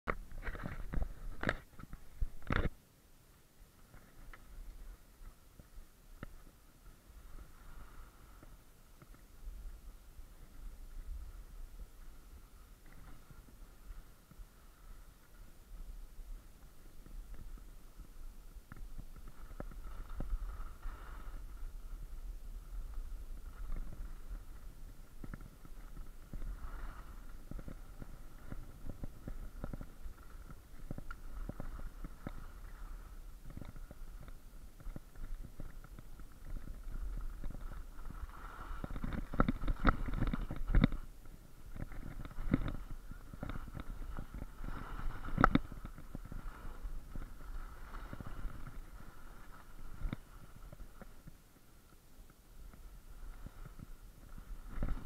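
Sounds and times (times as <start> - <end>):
low rumble of wind: 0.1 - 55.0
skis scraping over packed snow: 0.1 - 55.0.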